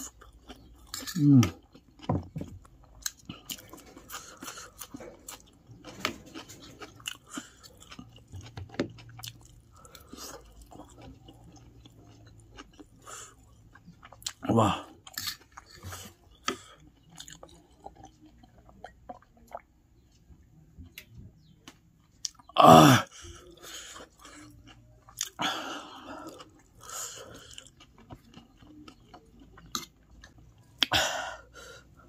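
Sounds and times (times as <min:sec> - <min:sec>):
person chewing noodles: 0:00.0 - 0:21.2, 0:22.0 - 0:32.0.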